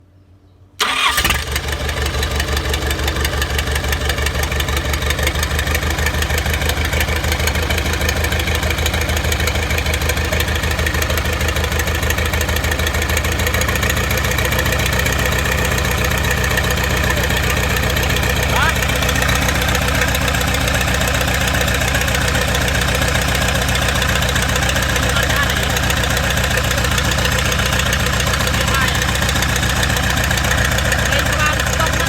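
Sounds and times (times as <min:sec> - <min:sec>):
excavator diesel engine idling: 0:00.8 - 0:32.0.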